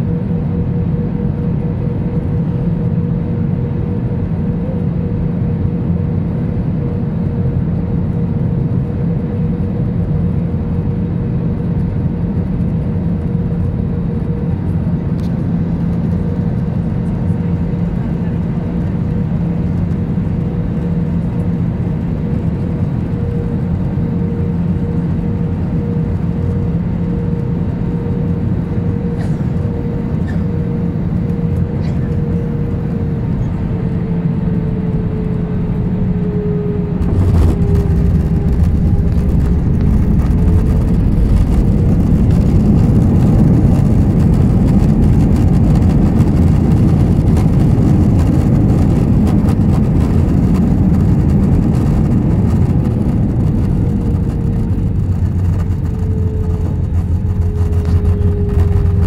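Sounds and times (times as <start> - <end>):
airplane cabin noise: 0.0 - 59.0.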